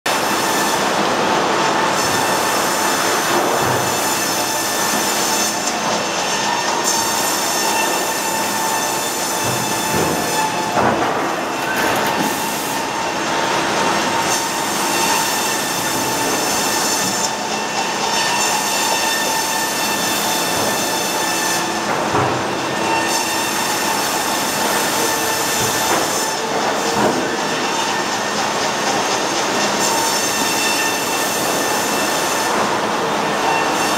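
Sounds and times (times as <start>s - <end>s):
band saw cutting log: 0.1s - 33.9s.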